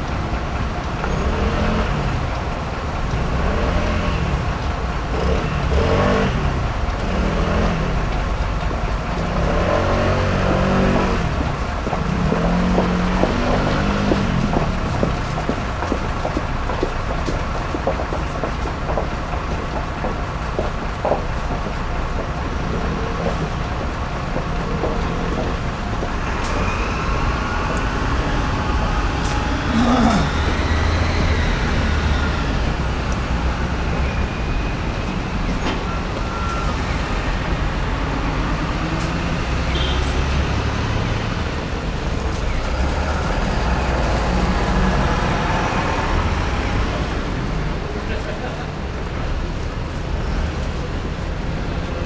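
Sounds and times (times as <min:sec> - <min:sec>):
traffic noise: 0:00.0 - 0:52.0.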